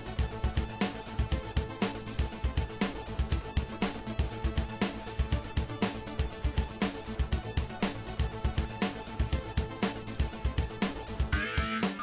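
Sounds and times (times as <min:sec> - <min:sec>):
upbeat music with drum beat: 0:00.0 - 0:12.0.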